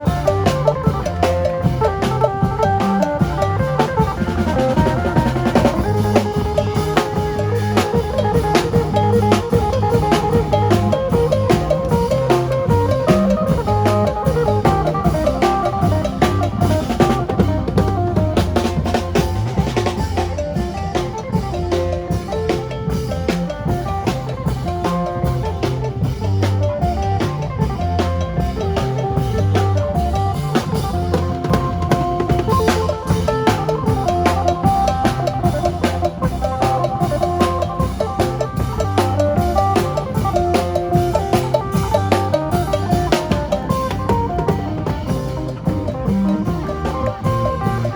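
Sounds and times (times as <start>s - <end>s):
bass line: 0.0s - 47.9s
drum kit beat: 0.0s - 47.9s.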